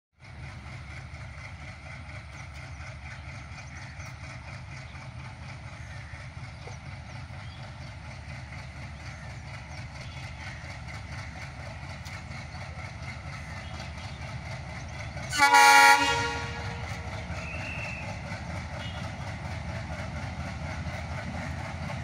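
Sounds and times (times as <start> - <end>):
locomotive engine rumbling: 0.2 - 22.0.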